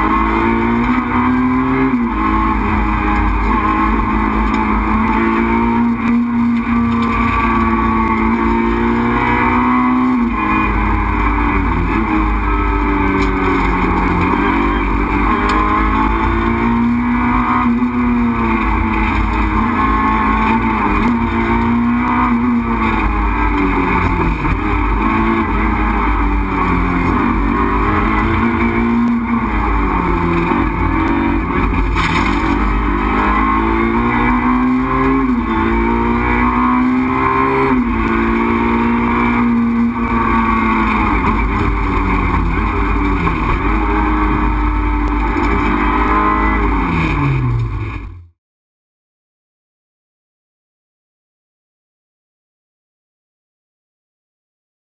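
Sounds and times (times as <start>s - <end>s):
rally car engine revving: 0.0s - 48.4s.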